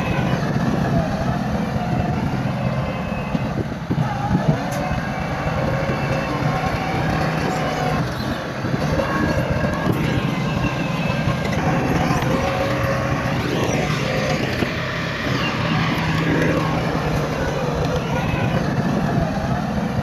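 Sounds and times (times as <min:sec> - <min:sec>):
heavy machinery diesel engines: 0:00.0 - 0:20.0.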